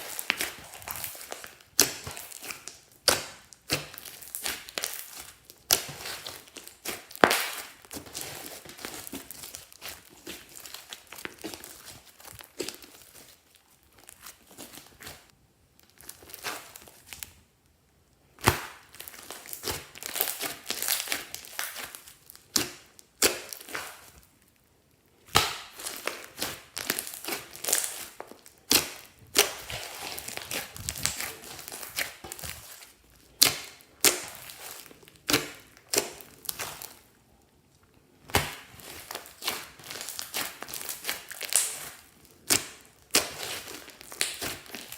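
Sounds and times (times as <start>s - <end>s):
slime crackling and popping: 0.0s - 17.4s, 18.3s - 24.6s, 25.2s - 37.2s, 38.2s - 44.9s.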